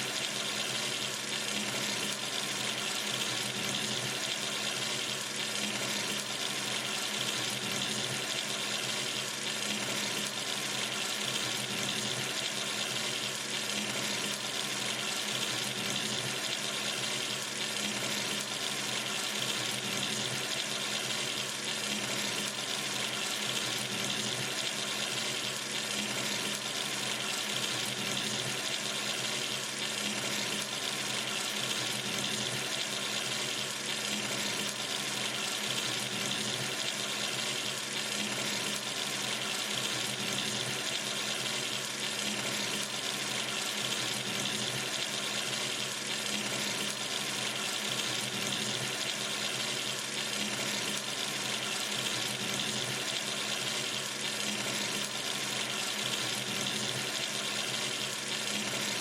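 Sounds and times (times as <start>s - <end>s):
water running from a sink tap: 0.0s - 59.0s.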